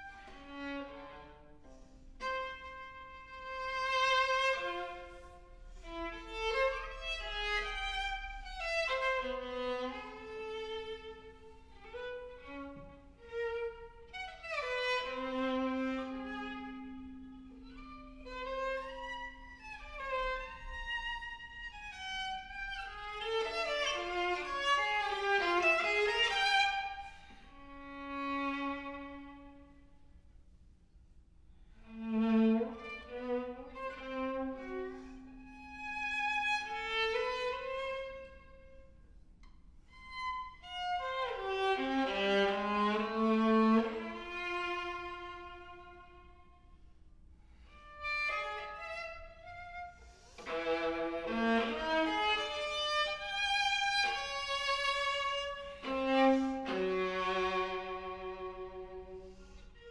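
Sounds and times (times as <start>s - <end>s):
viola playing slow melody: 0.0s - 30.1s, 31.8s - 59.9s.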